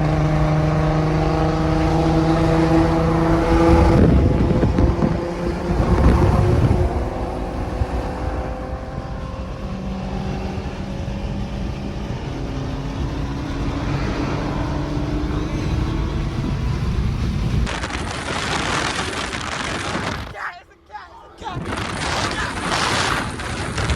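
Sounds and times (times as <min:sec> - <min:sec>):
loud car exhaust drone: 0:00.0 - 0:20.3, 0:21.6 - 0:23.9.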